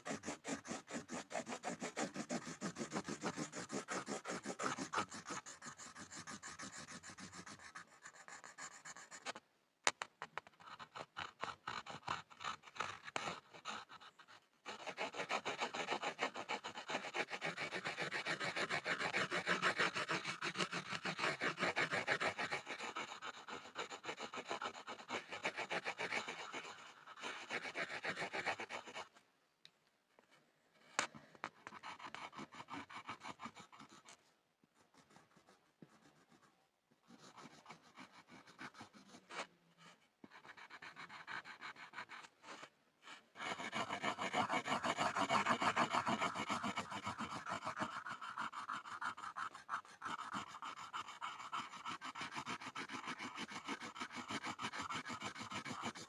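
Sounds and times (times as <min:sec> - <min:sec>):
pencil scribbling on board: 0:00.0 - 0:29.2, 0:30.8 - 0:56.0.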